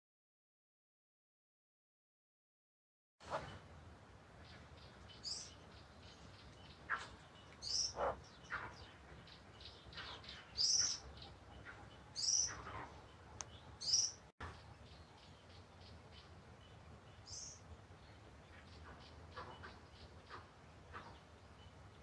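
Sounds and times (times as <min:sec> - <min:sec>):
birds chirping: 0:03.2 - 0:22.0.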